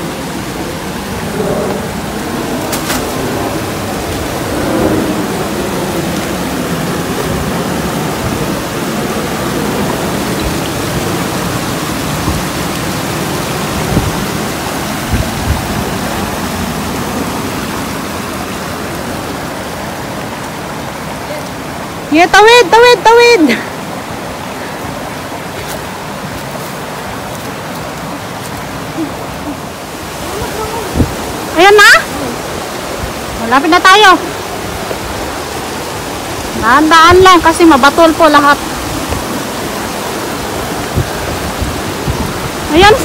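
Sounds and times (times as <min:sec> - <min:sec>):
mountain stream rushing: 0:00.0 - 0:43.0.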